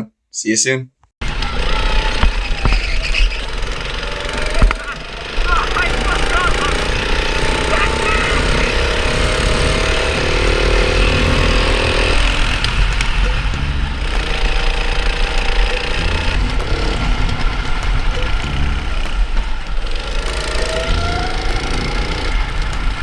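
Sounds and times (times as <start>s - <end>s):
go-kart engine running: 1.2s - 23.0s
heavy low rumble: 1.2s - 23.0s.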